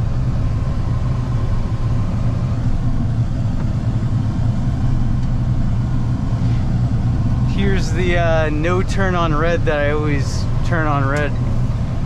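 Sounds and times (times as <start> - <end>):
road noise rush: 0.0 - 12.0
vehicle engine hum: 0.0 - 12.0.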